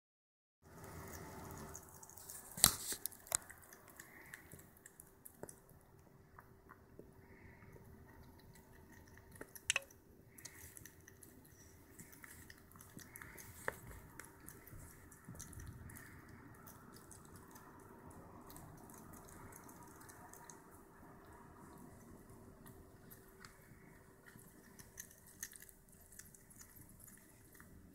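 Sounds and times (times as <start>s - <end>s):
hedgehog crunching food: 0.6s - 27.9s.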